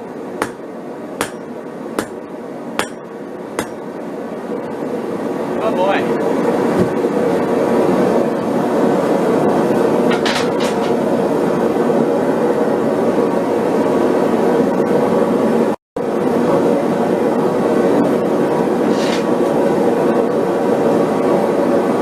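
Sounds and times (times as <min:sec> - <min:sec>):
forge burner roaring: 0:00.0 - 0:22.0.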